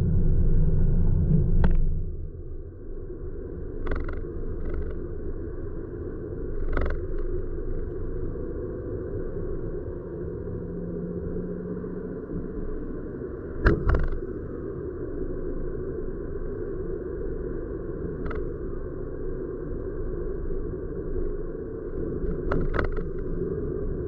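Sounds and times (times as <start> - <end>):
low road rumble inside car: 0.0 - 24.0.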